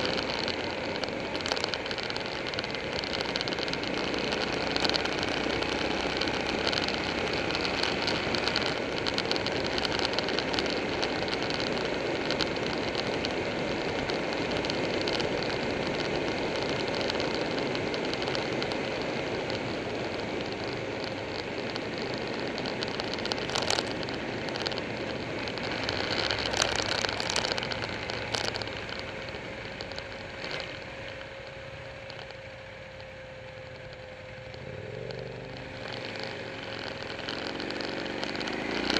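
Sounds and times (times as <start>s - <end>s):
motorcycle engine drone: 0.0s - 38.9s
road and wind noise: 0.0s - 38.9s.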